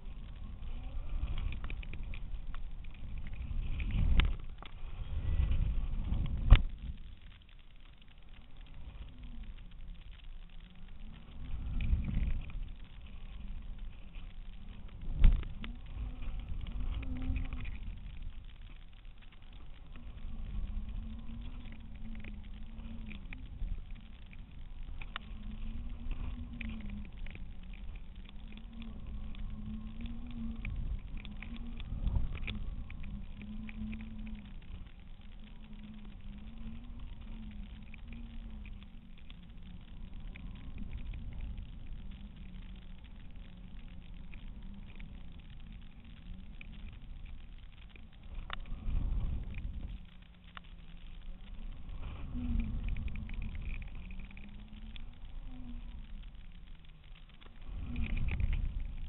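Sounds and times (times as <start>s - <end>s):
light ticks: 0.0s - 59.0s
wind buffeting camera: 0.0s - 59.0s.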